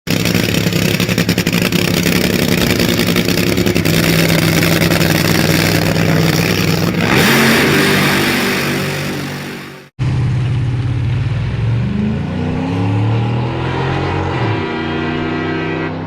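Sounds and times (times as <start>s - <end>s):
vehicle engine running and revving: 0.1s - 16.0s.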